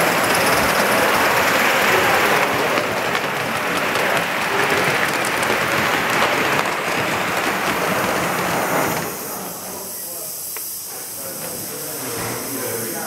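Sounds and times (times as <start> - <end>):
model steam locomotive hissing: 0.0 - 13.0.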